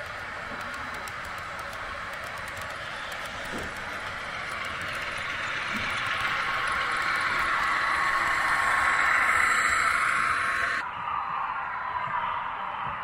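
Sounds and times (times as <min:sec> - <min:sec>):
model train running on track: 0:00.0 - 0:10.8.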